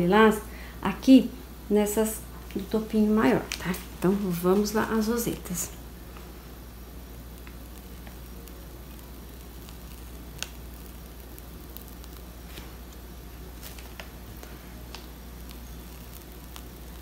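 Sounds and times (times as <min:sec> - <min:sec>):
steady low hum: 0:00.0 - 0:17.0
piping bag squishing cream: 0:02.6 - 0:17.0.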